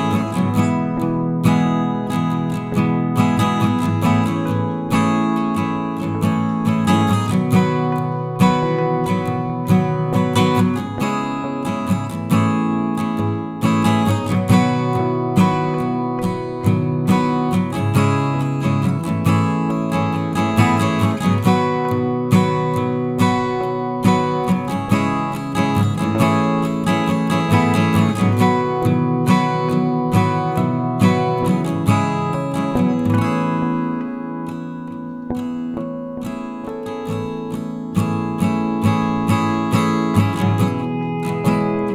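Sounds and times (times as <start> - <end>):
acoustic guitar music: 0.0 - 41.9.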